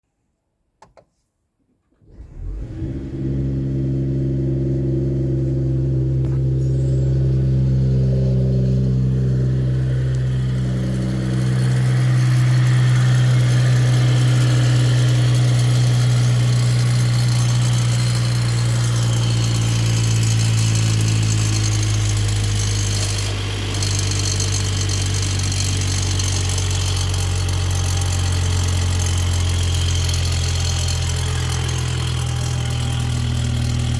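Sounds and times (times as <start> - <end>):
car engine cold start and idling: 1.9 - 33.9
turbo rattle: 2.1 - 33.9.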